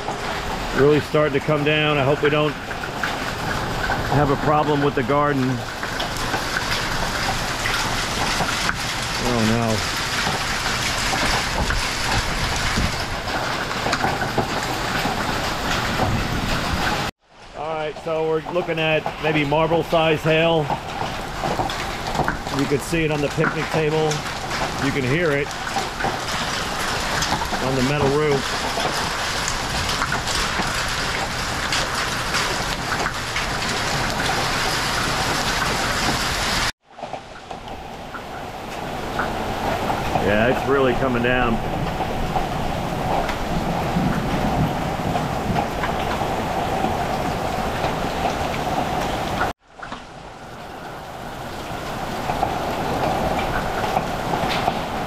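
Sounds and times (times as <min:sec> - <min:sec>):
hail and heavy rain: 0:00.0 - 0:55.0
hail hitting metal roof: 0:00.0 - 0:55.0.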